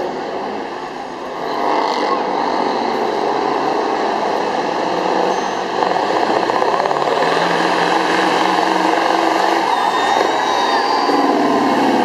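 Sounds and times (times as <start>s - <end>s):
diesel truck engine revving: 1.4s - 12.0s.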